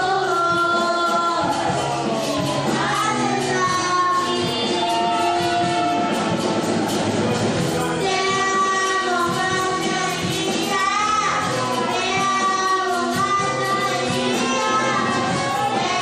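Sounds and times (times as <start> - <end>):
girl singing into microphone: 0.0 - 6.5, 7.6 - 16.0
instrumental backing music: 0.0 - 16.0.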